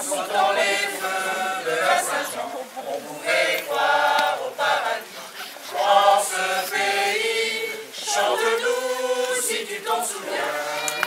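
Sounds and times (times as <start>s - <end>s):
choir singing: 0.0s - 11.0s.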